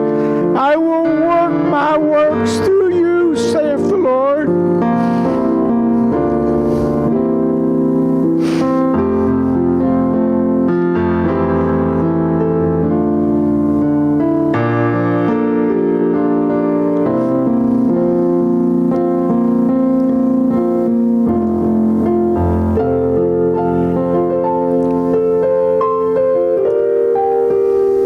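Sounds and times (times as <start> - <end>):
keyboard playing sustained chords: 0.0 - 28.0.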